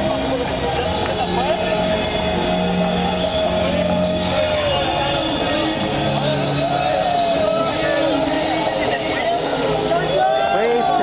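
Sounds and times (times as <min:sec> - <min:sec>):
loud music with singing: 0:00.0 - 0:11.0
people shouting: 0:00.1 - 0:11.0.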